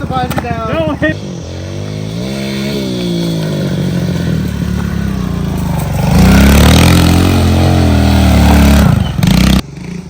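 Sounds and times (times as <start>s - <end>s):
diesel truck engine accelerating: 1.0s - 10.0s.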